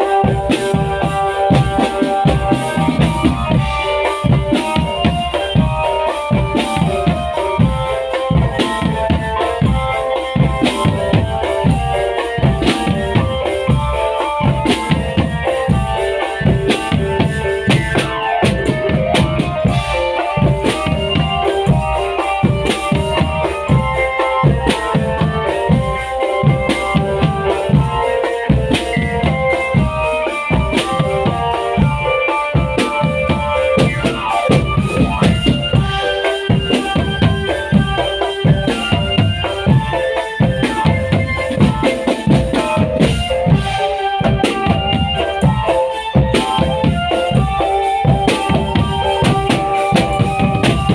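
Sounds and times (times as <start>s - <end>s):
bass and snare drums beating: 0.0s - 50.9s
sustained melody line: 0.0s - 50.9s.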